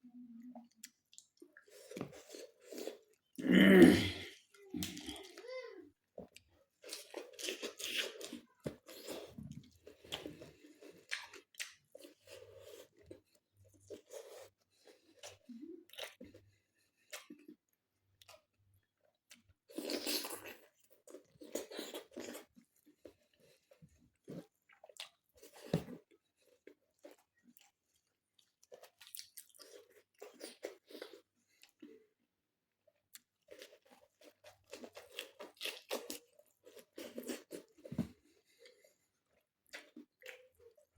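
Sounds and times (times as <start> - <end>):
person chewing and crunching food: 0.2 - 40.9.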